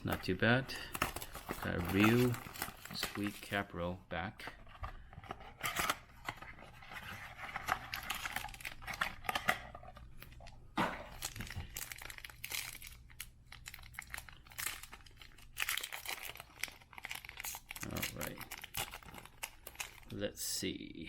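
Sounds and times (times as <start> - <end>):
wrapper crinkling and tearing: 0.0 - 3.8, 5.6 - 20.2.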